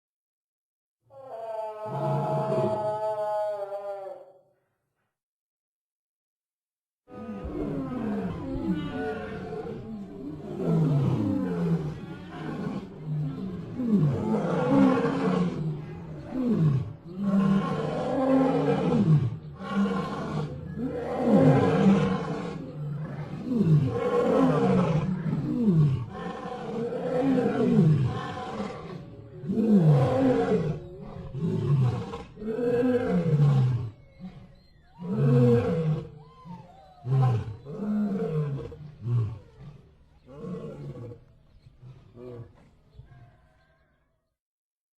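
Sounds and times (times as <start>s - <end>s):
lion roaring: 1.1s - 4.4s, 7.1s - 43.5s.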